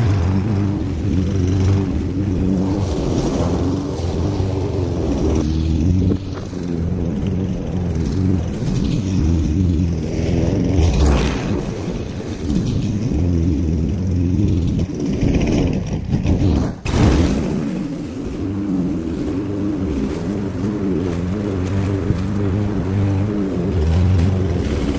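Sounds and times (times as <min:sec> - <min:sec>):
lawn mower engine running: 0:00.0 - 0:24.9.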